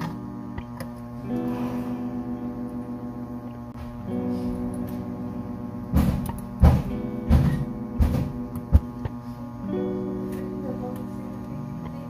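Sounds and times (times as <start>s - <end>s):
acoustic guitar music: 1.2s - 12.0s.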